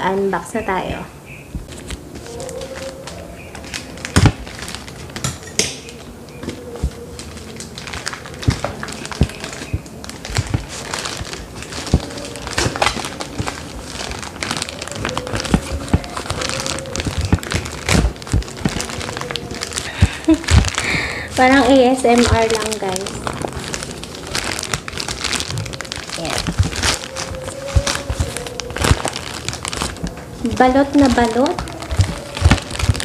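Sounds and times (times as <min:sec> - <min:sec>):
plastic pouch crinkling: 0:01.5 - 0:33.0
plastic tearing: 0:01.6 - 0:33.0.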